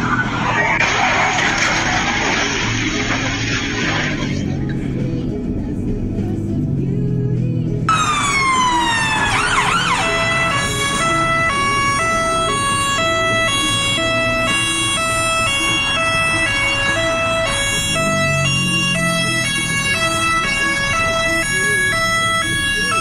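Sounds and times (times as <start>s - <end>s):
ambulance siren: 0.0s - 4.2s, 7.9s - 23.0s.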